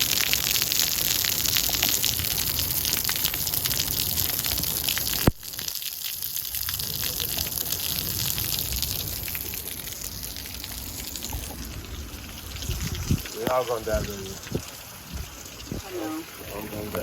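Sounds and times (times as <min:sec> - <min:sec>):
heavy rain and hail: 0:00.0 - 0:17.0.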